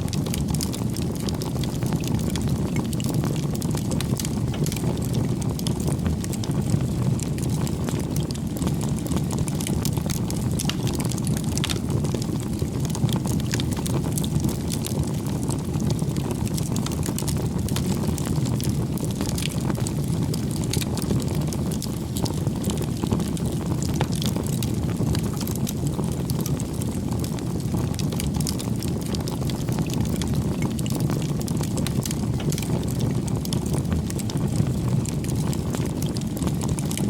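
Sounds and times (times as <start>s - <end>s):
bonfire burning: 0.0s - 37.0s
burning wood crackling: 0.0s - 37.0s.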